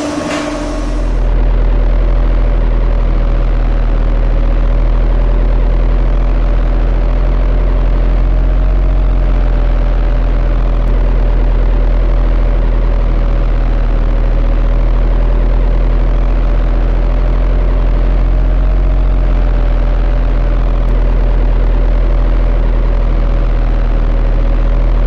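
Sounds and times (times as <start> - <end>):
machine hum with whine: 0.0 - 25.0.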